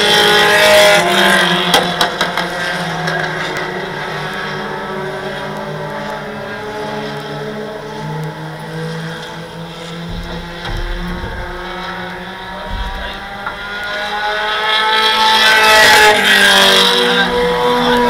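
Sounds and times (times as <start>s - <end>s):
race truck engines passing: 0.0s - 18.0s.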